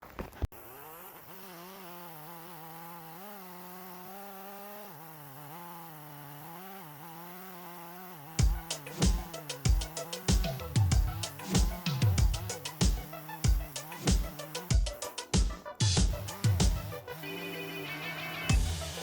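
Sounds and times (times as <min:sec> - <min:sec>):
power tool engine running: 0:00.5 - 0:19.0.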